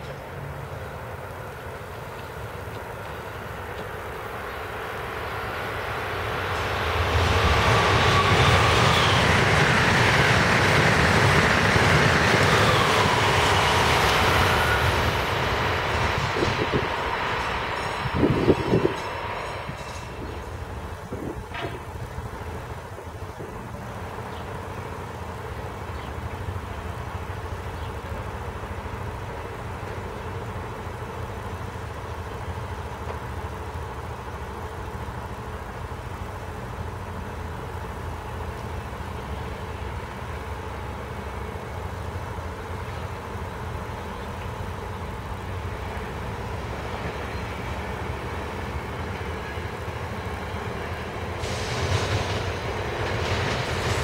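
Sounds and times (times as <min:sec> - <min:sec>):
distant electric train rumble: 0:00.0 - 0:54.0.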